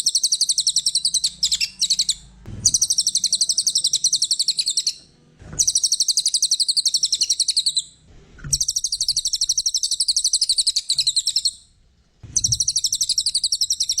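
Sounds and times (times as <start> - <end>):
songbird fast high chirping: 0.0 - 5.0, 5.6 - 7.9, 8.5 - 11.6, 12.3 - 14.0.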